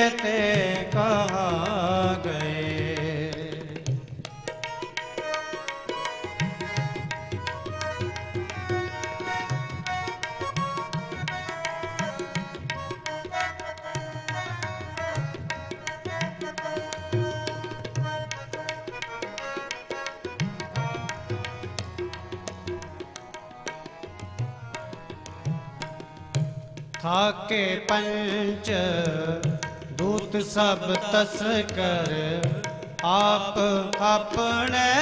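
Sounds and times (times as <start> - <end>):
harmonium chords: 0.0 - 35.0
tabla rhythm: 0.0 - 35.0.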